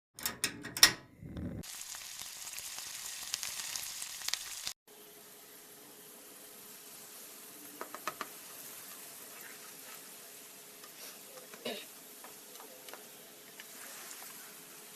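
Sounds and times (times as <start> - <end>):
food sizzling in hot oil: 1.6 - 14.9.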